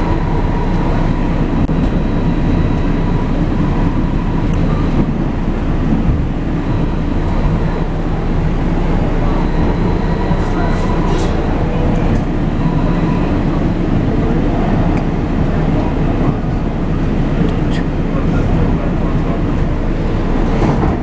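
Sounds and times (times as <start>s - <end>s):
rumble of train wheels: 0.0s - 21.0s
thin steady whine: 0.0s - 21.0s.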